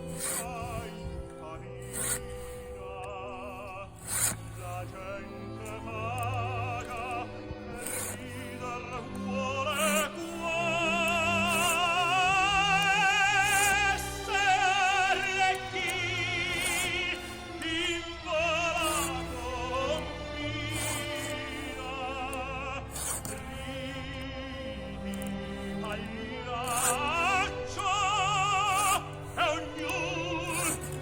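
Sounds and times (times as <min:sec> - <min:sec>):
operatic singing with vibrato: 0:00.0 - 0:31.0
orchestral accompaniment: 0:00.0 - 0:31.0.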